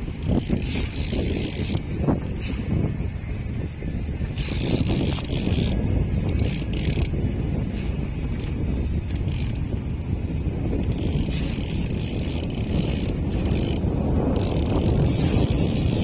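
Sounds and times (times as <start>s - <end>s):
fishing reel whirring and ratcheting: 0.0s - 2.6s, 4.2s - 16.0s
steady low rumble: 0.0s - 16.0s.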